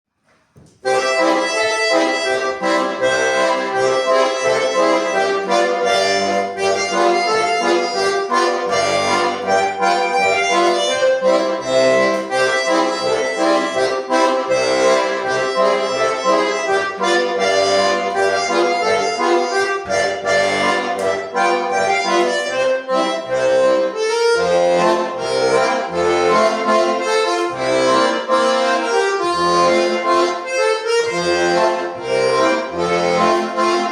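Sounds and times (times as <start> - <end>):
accordion playing a polka: 0.6 - 33.9.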